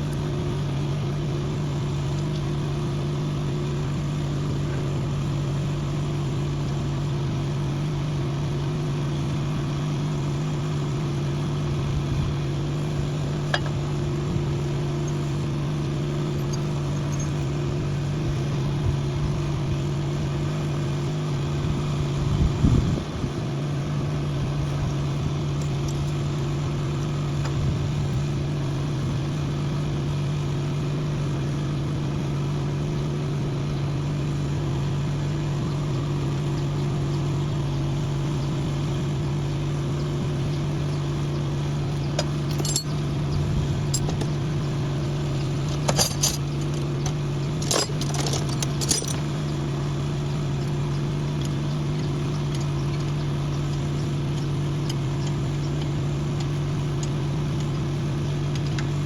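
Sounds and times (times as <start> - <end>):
motor running with low hum: 0.0 - 59.0.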